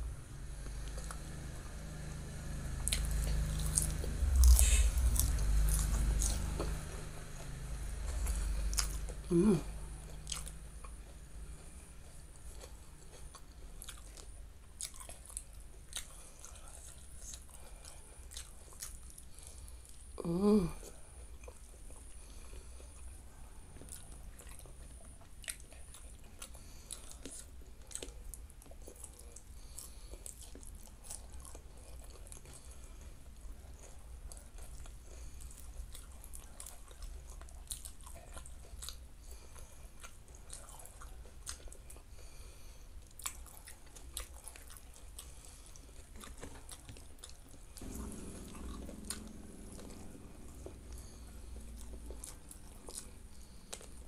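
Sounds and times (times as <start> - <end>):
chewing and mouth sounds: 0.6 - 54.0.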